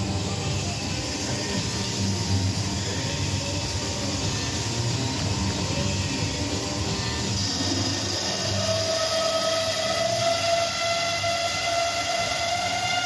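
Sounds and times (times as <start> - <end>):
bandsaw cutting pipe: 0.0 - 13.0
high blade whine: 0.0 - 13.0.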